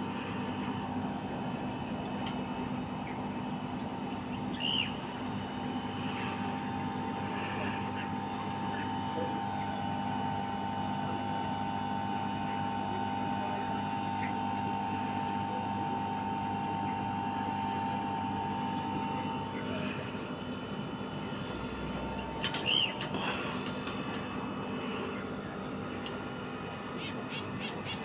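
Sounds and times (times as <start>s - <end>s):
air conditioner motor hum: 0.0s - 28.0s
steady high whine: 0.0s - 28.0s.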